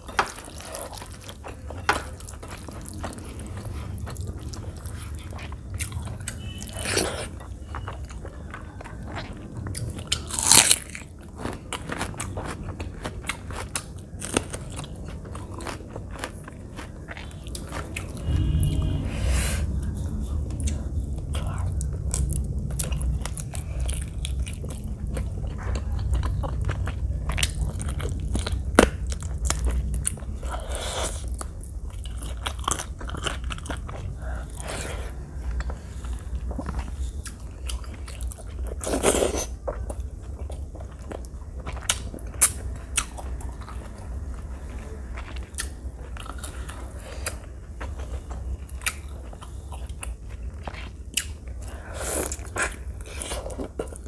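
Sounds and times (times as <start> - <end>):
close chewing with wet smacks: 0.0 - 18.2, 20.5 - 34.6, 35.4 - 54.0.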